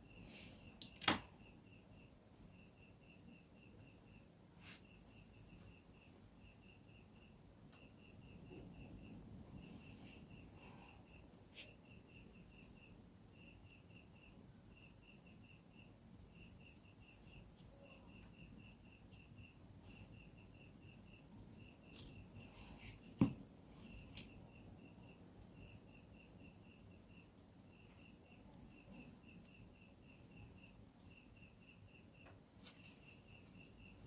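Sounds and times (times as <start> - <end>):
cricket chirping: 0.0 - 34.0.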